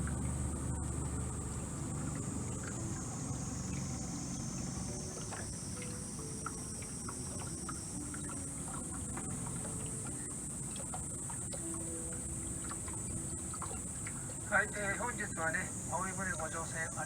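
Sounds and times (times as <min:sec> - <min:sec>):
boat motor humming: 0:00.0 - 0:17.0
cicadas droning: 0:00.0 - 0:17.0.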